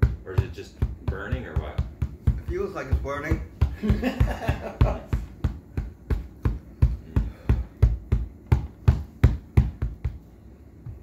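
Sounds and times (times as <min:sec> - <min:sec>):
rhythmic low thumping: 0:00.0 - 0:11.0.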